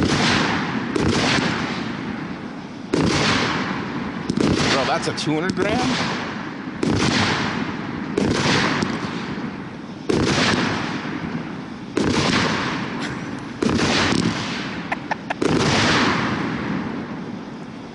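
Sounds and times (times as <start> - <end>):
firework reports: 0.0 - 17.9
small firework crackles: 0.0 - 17.9.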